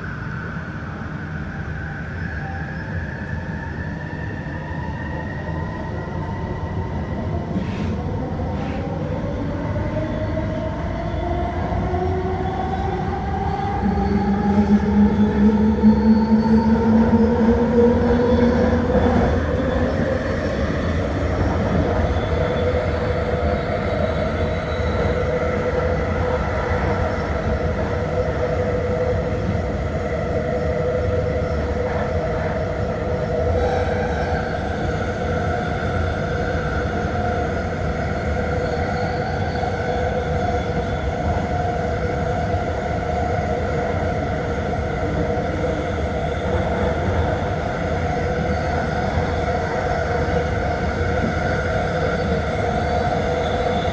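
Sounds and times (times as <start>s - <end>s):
train rumble: 0.0s - 53.9s.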